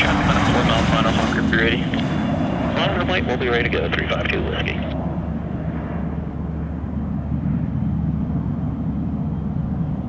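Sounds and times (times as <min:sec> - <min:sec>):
jet engines rumbling with whine: 0:00.0 - 0:10.0.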